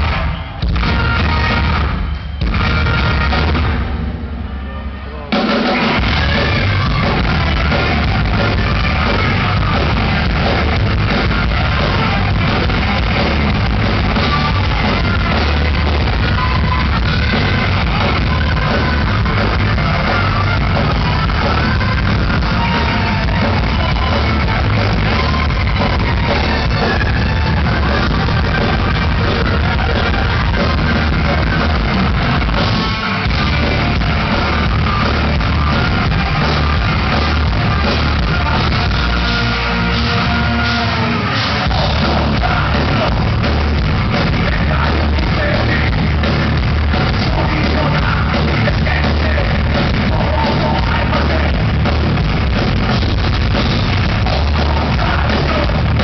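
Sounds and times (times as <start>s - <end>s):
bass guitar: 0.0s - 56.0s
distorted electric guitar: 0.0s - 56.0s
drums: 0.0s - 56.0s
vocals: 5.1s - 56.0s.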